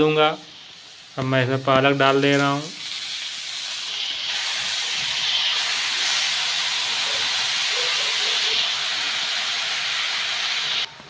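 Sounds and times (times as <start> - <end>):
spinach sizzling in hot oil: 0.0 - 11.0.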